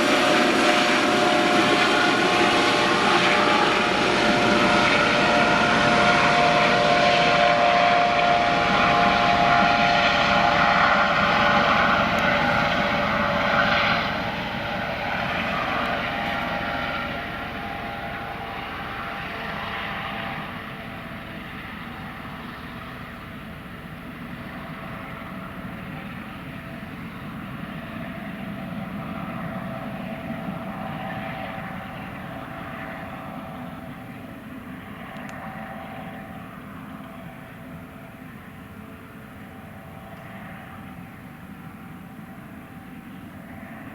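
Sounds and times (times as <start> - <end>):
helicopter rotor and turbine whine: 0.0 - 43.9.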